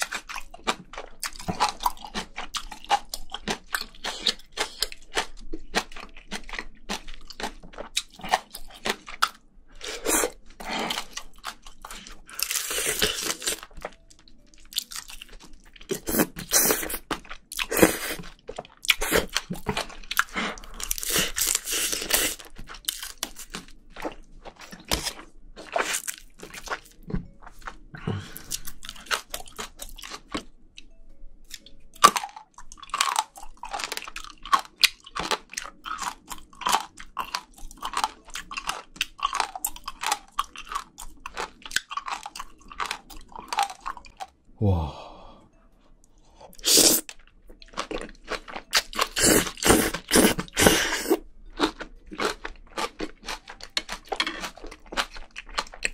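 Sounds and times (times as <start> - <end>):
chewing and crunching: 0.0 - 44.4, 46.2 - 55.9.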